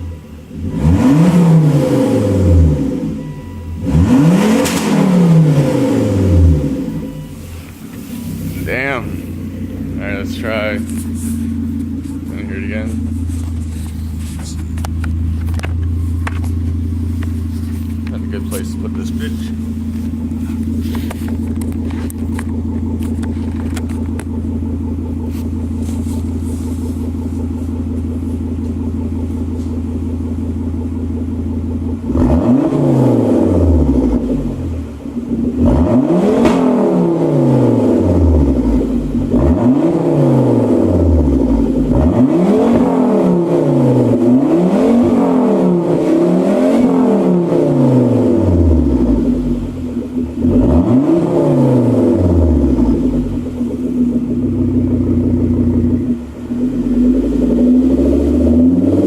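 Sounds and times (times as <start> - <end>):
car exhaust idling and revving: 0.0 - 59.0.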